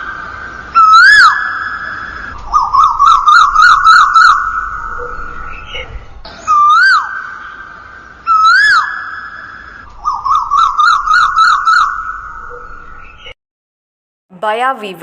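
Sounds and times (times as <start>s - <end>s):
bird calling whistled notes: 0.0s - 13.4s.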